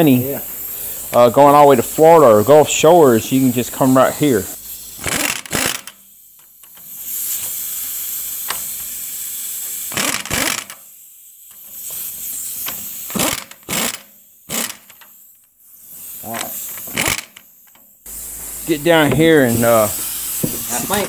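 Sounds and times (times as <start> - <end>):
air ratchet running: 0.0 - 21.0.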